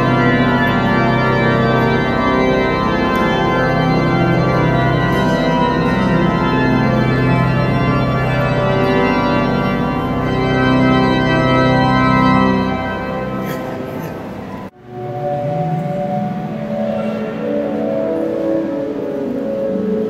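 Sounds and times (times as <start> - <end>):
pipe organ playing chords: 0.0 - 20.0.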